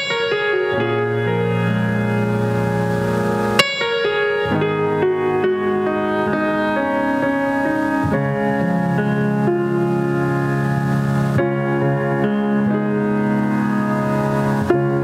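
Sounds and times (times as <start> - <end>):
piano music over loudspeakers: 0.0 - 15.0.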